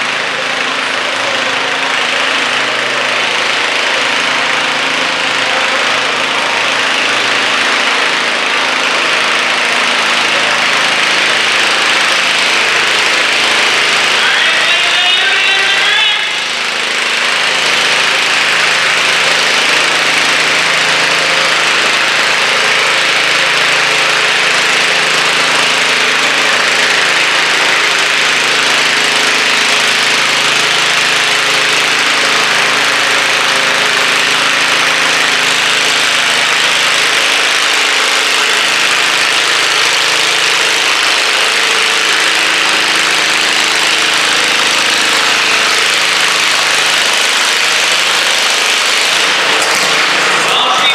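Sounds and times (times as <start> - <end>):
tractor engine idling: 0.0 - 50.9.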